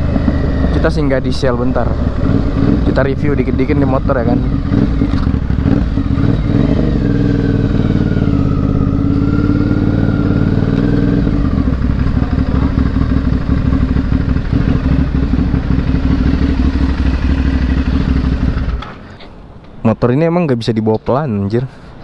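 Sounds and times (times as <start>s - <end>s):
motorcycle engine at low revs: 0.0s - 19.1s.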